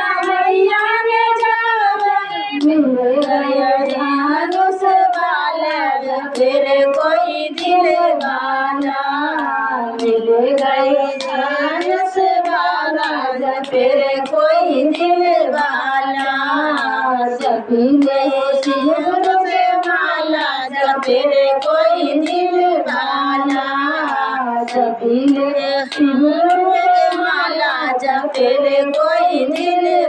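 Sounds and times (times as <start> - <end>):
hand claps: 0.0 - 30.0
women singing together: 0.0 - 30.0.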